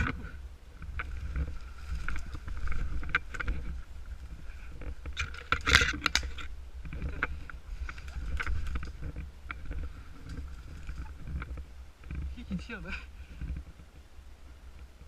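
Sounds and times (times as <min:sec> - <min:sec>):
rustling through brush: 0:00.0 - 0:15.0.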